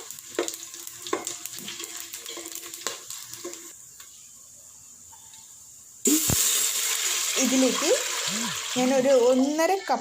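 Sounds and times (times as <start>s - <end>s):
spices sizzling in hot oil: 0.0s - 4.3s, 5.6s - 10.0s.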